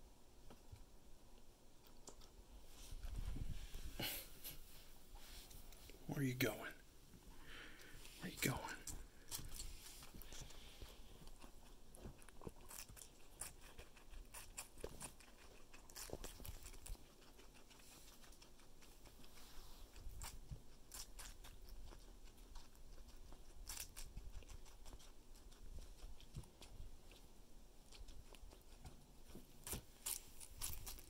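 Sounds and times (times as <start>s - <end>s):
guinea pig chewing watermelon: 0.0s - 3.8s, 7.4s - 31.0s.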